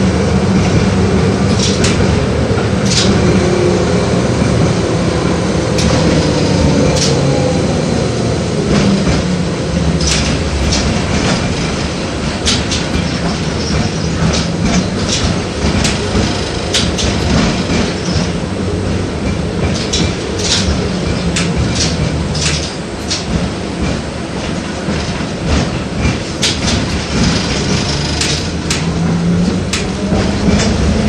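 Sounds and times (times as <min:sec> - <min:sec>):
tram rumble and motor hum: 0:00.0 - 0:31.0
wheels clicking on track: 0:00.5 - 0:03.4, 0:05.7 - 0:07.5, 0:08.6 - 0:31.0.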